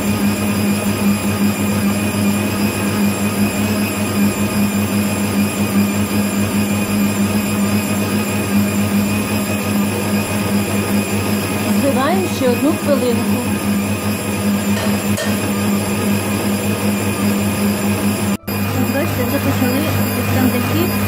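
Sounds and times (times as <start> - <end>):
stand mixer whisking: 0.0 - 21.0.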